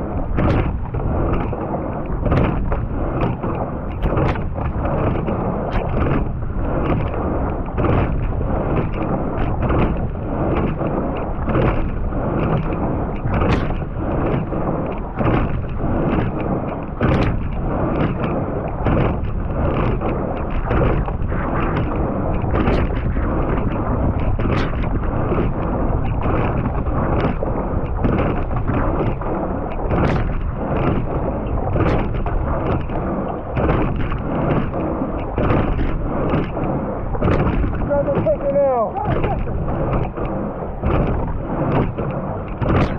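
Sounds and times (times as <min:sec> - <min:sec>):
water rushing past hull: 0:00.0 - 0:42.9
wind buffeting microphone: 0:00.0 - 0:42.9
oar clicking in oarlock: 0:00.1 - 0:42.9.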